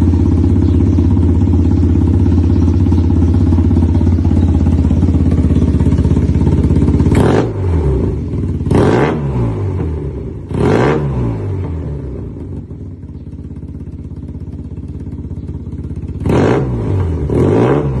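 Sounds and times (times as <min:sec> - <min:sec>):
scooter engine revving: 0:00.0 - 0:18.0.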